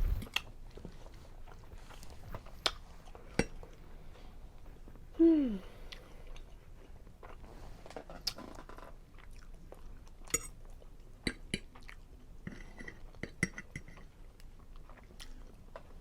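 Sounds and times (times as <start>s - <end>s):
person chewing food: 0.0s - 3.8s, 5.9s - 7.5s, 8.2s - 16.0s.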